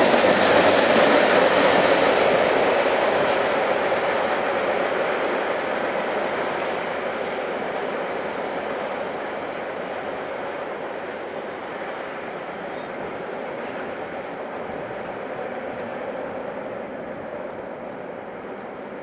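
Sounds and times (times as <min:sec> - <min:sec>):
freight train wheels rattling on rail: 0:00.0 - 0:19.0.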